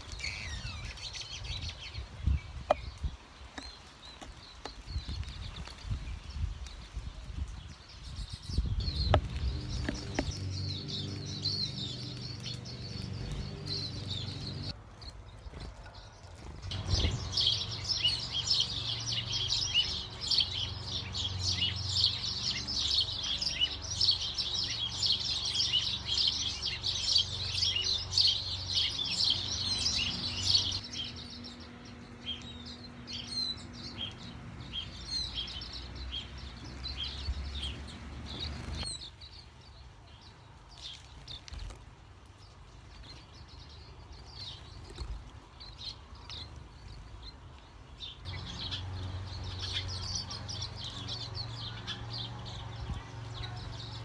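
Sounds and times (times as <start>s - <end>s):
background noise: 0.0s - 54.0s
small birds chirping: 0.0s - 54.0s.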